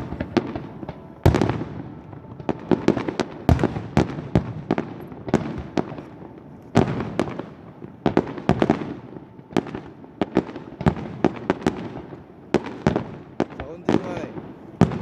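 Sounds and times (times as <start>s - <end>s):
fireworks bursting with bangs: 0.0s - 15.0s.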